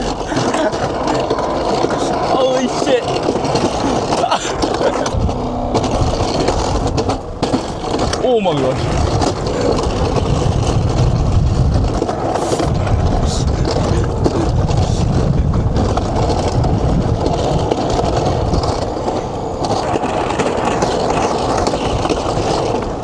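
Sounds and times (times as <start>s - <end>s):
ride rumbling and rattling: 0.0s - 23.0s
wind buffeting microphone: 0.0s - 23.0s.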